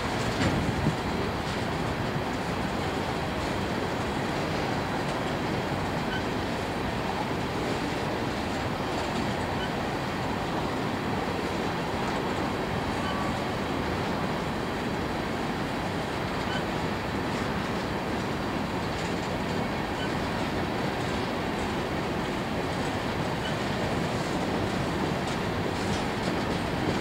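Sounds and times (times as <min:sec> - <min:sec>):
freight train wheels rumbling: 0:00.0 - 0:27.0.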